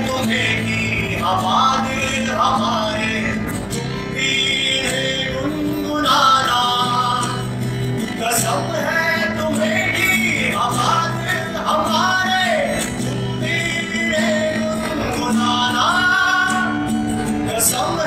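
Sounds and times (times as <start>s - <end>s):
acoustic guitar strumming: 0.0s - 18.0s
man singing into microphone: 0.0s - 18.0s.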